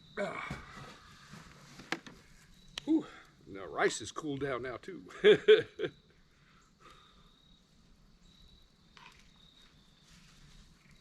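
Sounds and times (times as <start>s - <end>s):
faint insect trilling: 0.0s - 11.0s.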